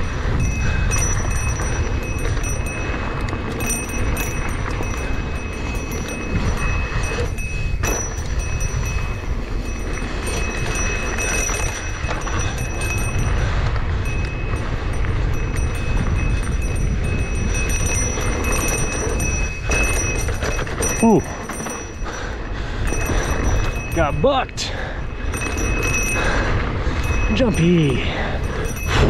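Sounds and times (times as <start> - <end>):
rattling rumble of downhill run: 0.0 - 29.0
wind buffeting microphone: 0.0 - 29.0.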